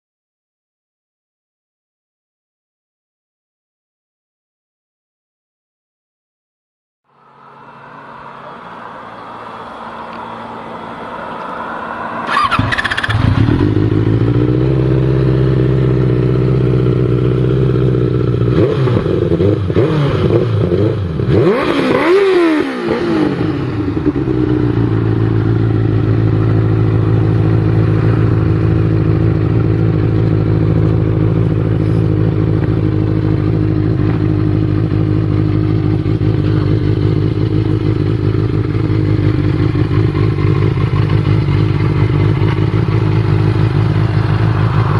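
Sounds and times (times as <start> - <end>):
motorcycle engine idling and revving: 7.1 - 44.9.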